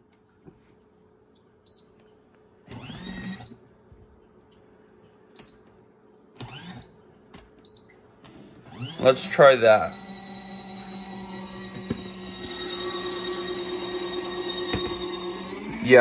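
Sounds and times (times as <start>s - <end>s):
faint steady hum: 0.0s - 16.0s
washing machine whirring: 0.0s - 16.0s.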